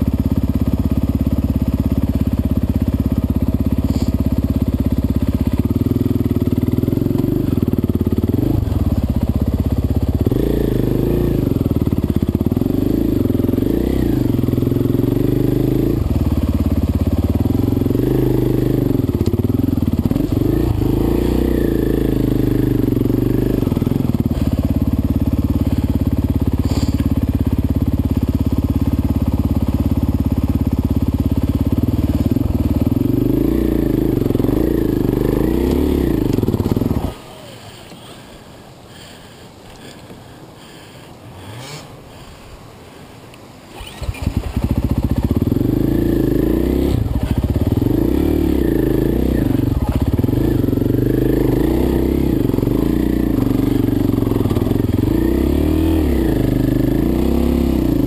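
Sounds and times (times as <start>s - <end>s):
dirt bike engine revving: 0.8s - 38.3s, 43.7s - 58.0s.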